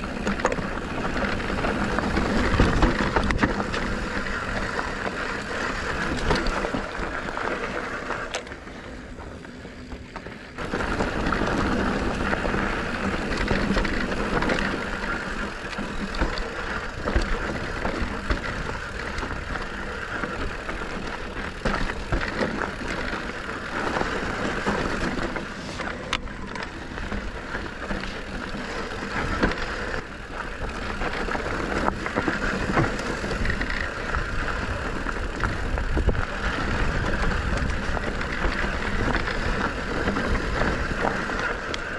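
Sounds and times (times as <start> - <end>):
bike rattling over bumps: 0.0 - 41.9
tyres crunching on gravel: 0.0 - 41.9.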